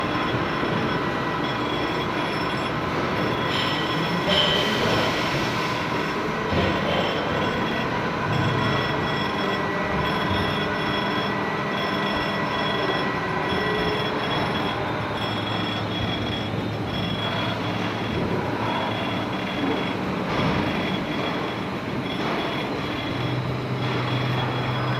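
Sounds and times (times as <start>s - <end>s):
pulsing high whine: 0.0s - 24.9s
surface grinder running: 0.0s - 24.9s.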